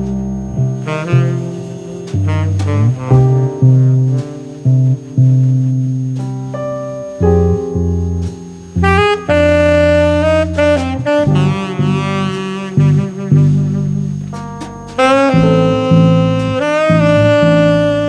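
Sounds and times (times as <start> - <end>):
bass line: 0.0 - 18.0
saxophone melody: 0.0 - 18.0.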